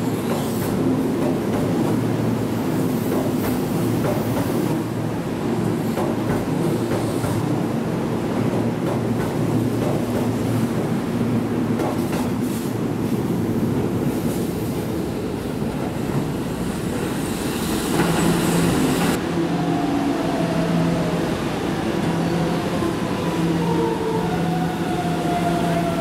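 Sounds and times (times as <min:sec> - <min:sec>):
train rumbling along platform: 0:00.0 - 0:26.0.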